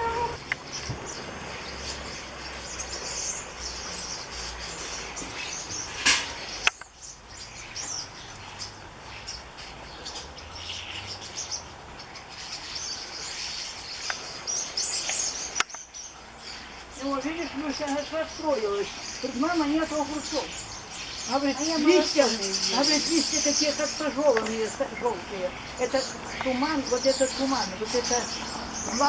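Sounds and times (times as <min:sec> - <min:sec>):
flock of birds chirping: 0:00.0 - 0:29.0.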